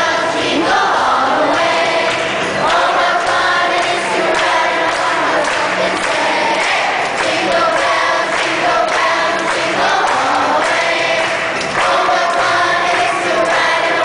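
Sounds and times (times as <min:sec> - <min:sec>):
children's choir singing: 0:00.0 - 0:14.0.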